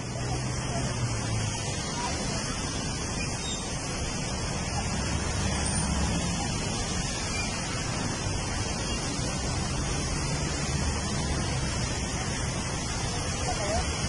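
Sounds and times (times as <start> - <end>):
falling rain: 0.0 - 14.0
road traffic rumble: 0.0 - 14.0.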